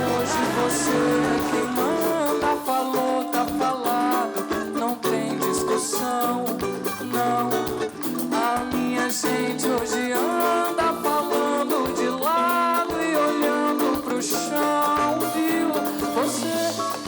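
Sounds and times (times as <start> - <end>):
live band music with guitar: 0.0 - 17.0.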